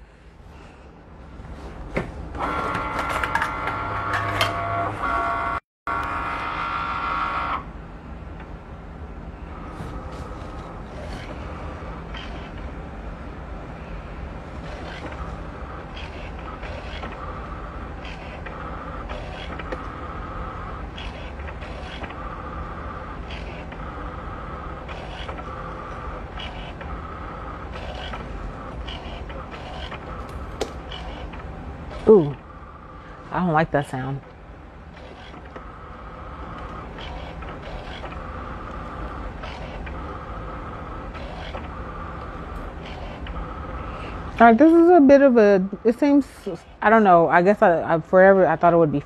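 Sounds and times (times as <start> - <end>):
cutting machine motors whining: 2.2 - 47.2.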